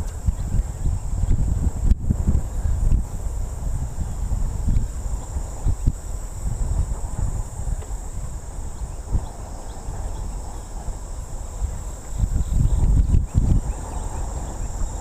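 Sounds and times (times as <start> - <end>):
insect chorus: 0.0 - 15.0
wind rumbling on microphone: 0.0 - 15.0.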